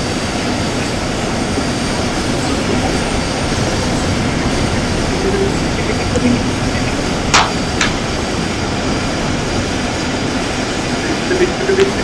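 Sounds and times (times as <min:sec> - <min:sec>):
moving passenger train rush: 0:00.0 - 0:12.0.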